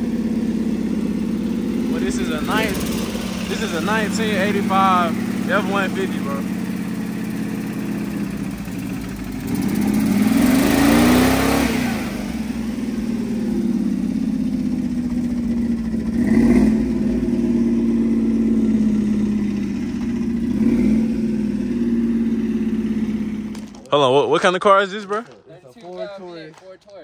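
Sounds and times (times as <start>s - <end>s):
engine idling and revving: 0.0s - 25.1s.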